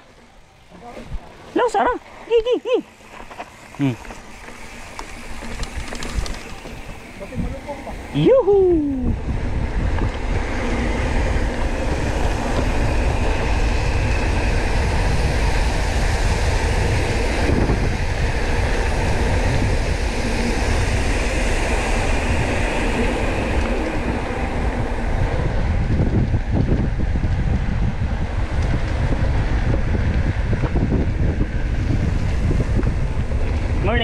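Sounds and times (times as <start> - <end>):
bike tyres rolling on concrete: 0.0 - 34.0
wind buffeting microphone: 3.9 - 34.0.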